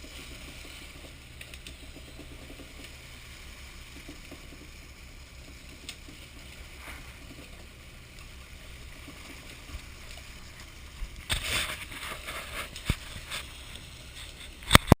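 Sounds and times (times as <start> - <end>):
boat engine humming: 0.0 - 14.9
water splashing: 0.0 - 15.0.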